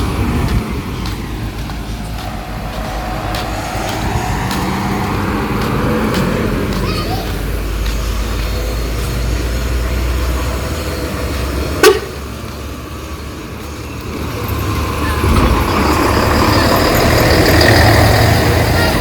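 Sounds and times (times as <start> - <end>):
vehicle rumbling past: 0.0 - 19.0.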